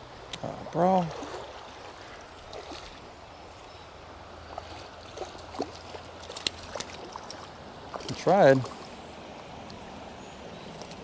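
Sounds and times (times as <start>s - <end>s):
river current running: 0.0s - 11.0s.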